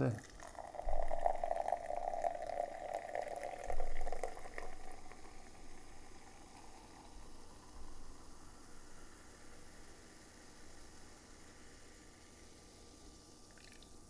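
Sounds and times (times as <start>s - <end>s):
cola fizzing in a glass: 0.0s - 14.0s.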